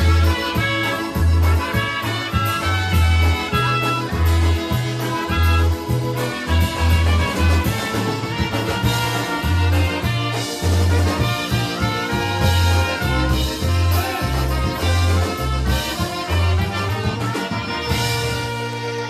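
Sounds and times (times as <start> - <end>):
drums: 0.0 - 19.0
polka band playing: 0.0 - 19.0
trumpets and saxophone melody: 0.0 - 19.0
two-note bass line: 0.0 - 19.0.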